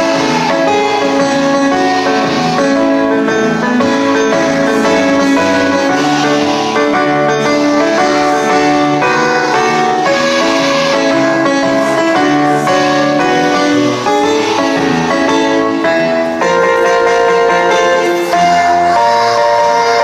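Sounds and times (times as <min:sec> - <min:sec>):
instrumental music: 0:00.0 - 0:20.0.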